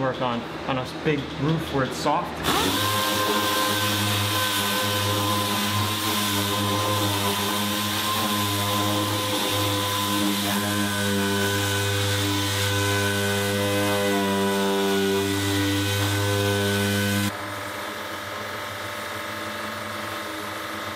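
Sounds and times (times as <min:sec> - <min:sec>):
orbital sander whining: 0:02.4 - 0:20.9.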